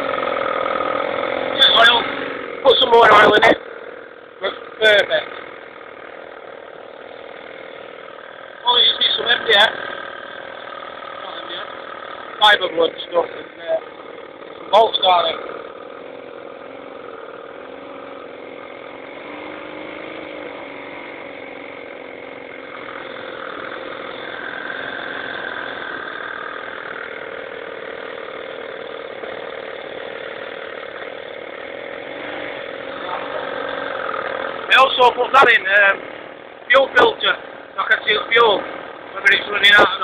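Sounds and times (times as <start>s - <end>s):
lawn mower engine running: 0.0s - 40.0s.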